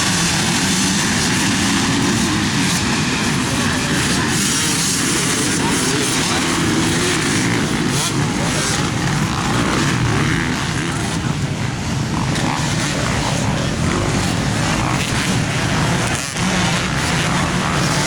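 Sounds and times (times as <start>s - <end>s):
dirt bike engines droning: 0.0s - 18.0s.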